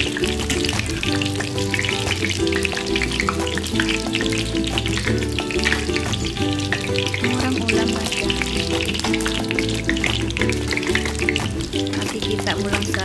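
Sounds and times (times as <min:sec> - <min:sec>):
food frying in oil: 0:00.0 - 0:13.0
music with held chords: 0:00.0 - 0:13.0.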